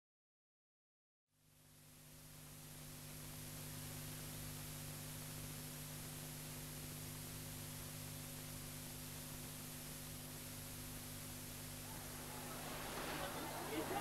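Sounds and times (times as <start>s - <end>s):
low electrical hum: 1.4s - 14.0s
steady film hiss: 1.4s - 14.0s.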